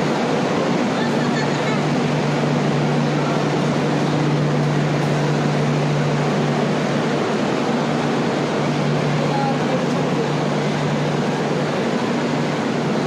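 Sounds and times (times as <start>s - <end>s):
constant low hum: 0.0s - 13.0s
steady mechanical noise: 0.0s - 13.0s.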